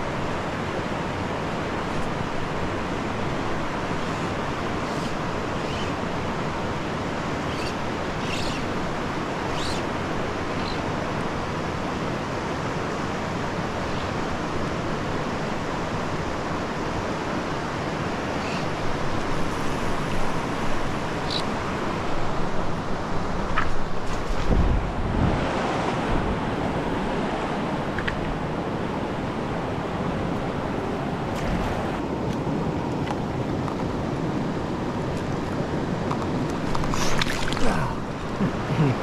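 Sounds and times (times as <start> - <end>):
stream rushing: 0.0 - 39.0.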